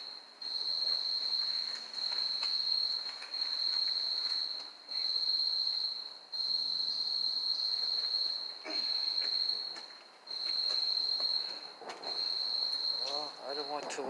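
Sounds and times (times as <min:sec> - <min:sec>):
high-pitched insect trill: 0:00.0 - 0:13.8.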